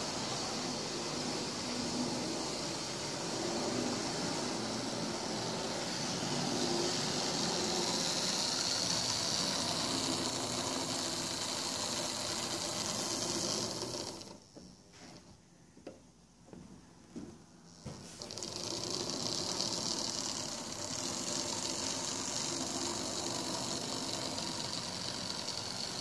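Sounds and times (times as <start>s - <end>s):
model train motor whirring: 0.0s - 14.6s, 17.7s - 26.0s.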